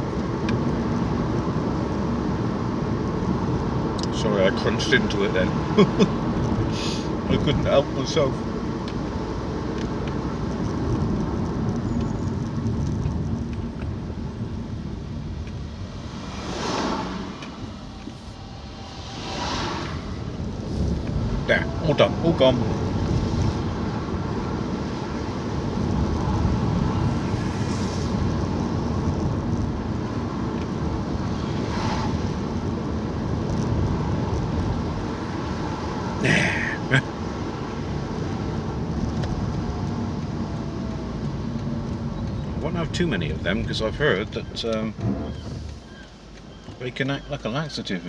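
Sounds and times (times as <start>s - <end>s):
road and engine rumble in a cabin: 0.0s - 48.0s.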